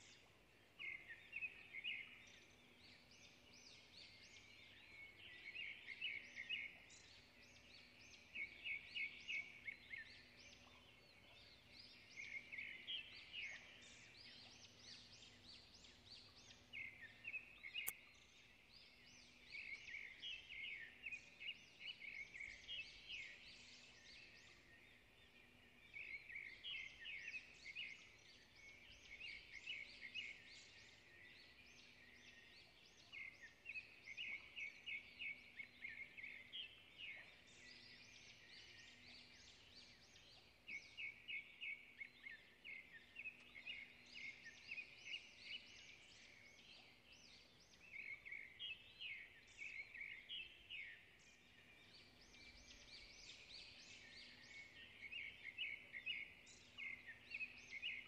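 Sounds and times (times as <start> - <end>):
songbird chirping trills: 0.0 - 58.0.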